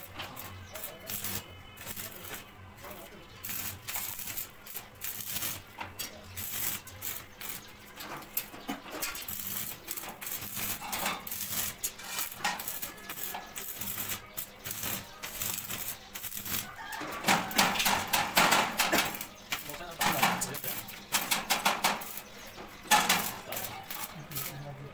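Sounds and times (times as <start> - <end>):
welding arc crackling: 0.0 - 24.9.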